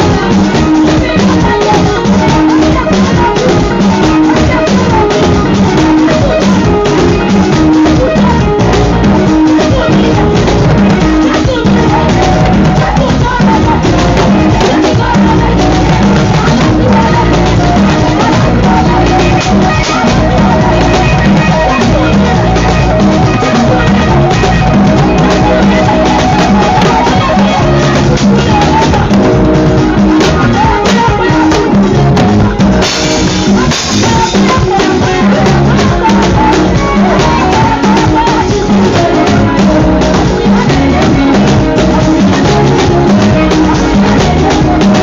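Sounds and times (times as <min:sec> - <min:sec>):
loud music with drum beat: 0:00.0 - 0:45.0.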